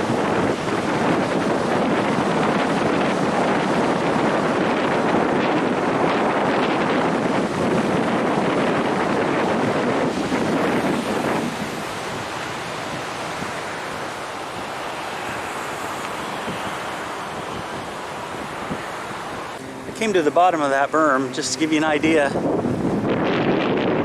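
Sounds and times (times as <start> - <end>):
ocean surf: 0.0 - 24.0
wind buffeting the microphone: 0.0 - 24.0.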